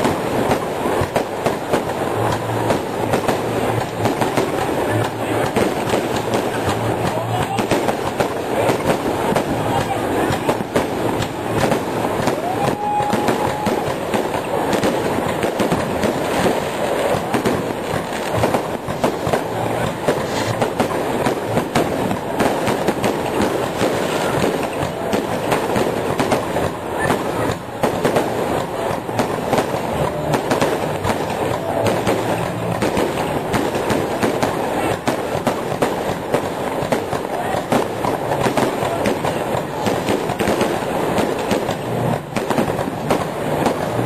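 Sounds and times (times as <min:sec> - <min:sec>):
fireworks crackling and banging: 0:00.0 - 0:44.0.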